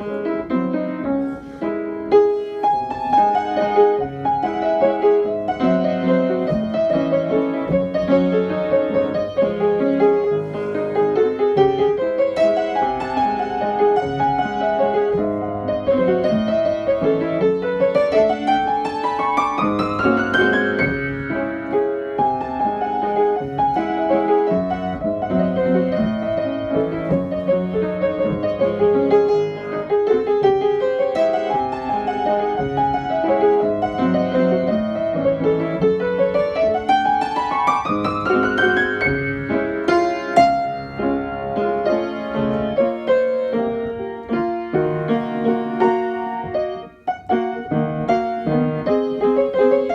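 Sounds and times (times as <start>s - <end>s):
piano music: 0.0s - 49.9s.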